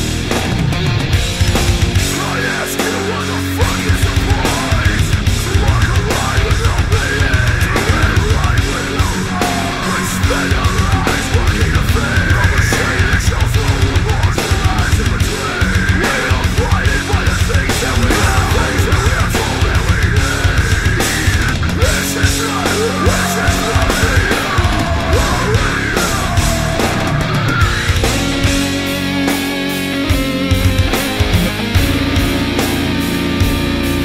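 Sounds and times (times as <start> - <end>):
fast dense drumming: 0.0 - 34.0
heavy metal music: 0.0 - 34.0.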